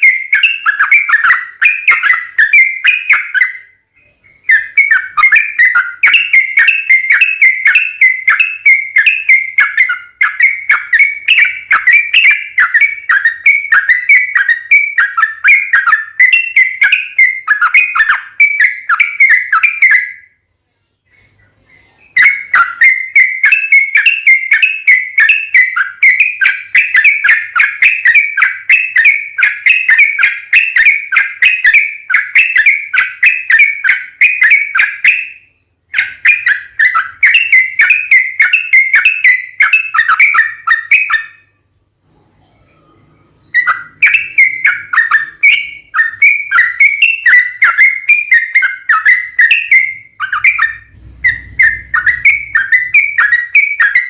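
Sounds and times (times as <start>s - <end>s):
bird chattering whistled call: 0.0s - 20.3s, 21.1s - 41.6s, 42.6s - 54.0s.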